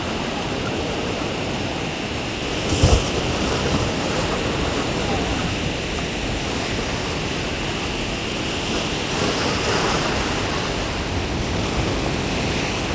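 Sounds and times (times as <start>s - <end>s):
sea waves breaking: 0.0s - 12.9s.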